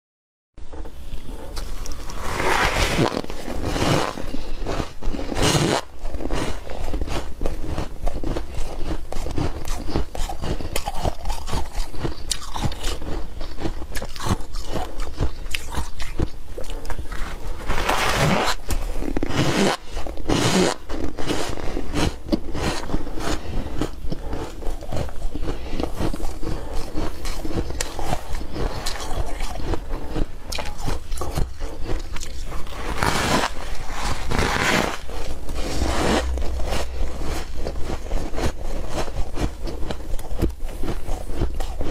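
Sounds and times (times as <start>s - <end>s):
chewing crunchy ice: 3.0s - 41.9s.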